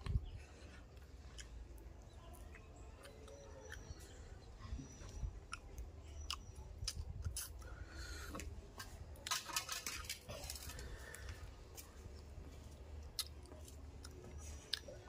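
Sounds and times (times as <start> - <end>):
chewing and lip smacks: 0.0 - 9.3, 9.9 - 15.0.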